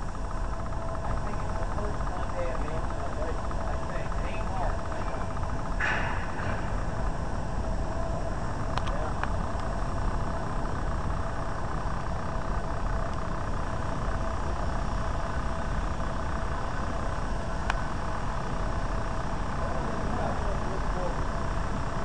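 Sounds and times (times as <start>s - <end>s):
machinery drone: 0.0s - 22.0s.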